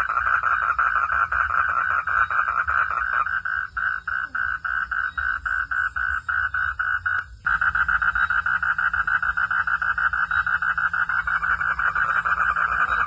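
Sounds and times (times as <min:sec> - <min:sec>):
frogs calling in rapid pulses: 0:00.0 - 0:13.0.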